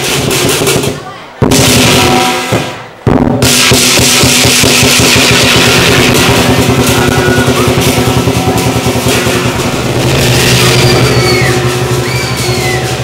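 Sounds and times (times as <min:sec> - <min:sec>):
big drum beaten fast: 0:00.0 - 0:13.0
clashing cymbals: 0:01.6 - 0:13.0.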